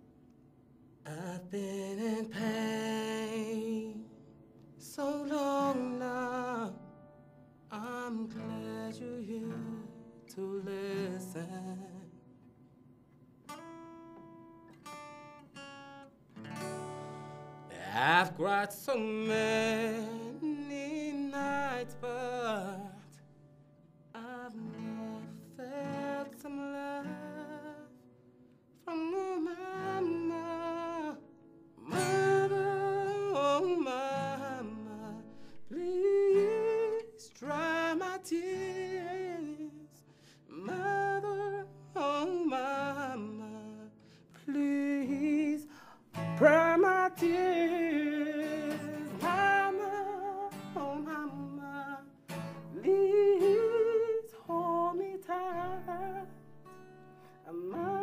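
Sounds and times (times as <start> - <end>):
person singing slow song: 1.0 - 7.0, 7.7 - 12.4, 17.6 - 23.3, 24.1 - 28.0, 28.8 - 58.0
guitar accompaniment: 1.0 - 58.0.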